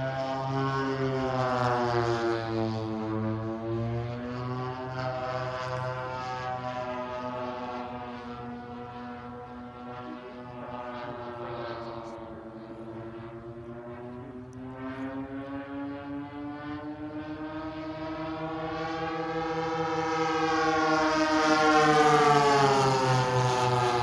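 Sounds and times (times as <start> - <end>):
model airplane engines droning: 0.0 - 24.0.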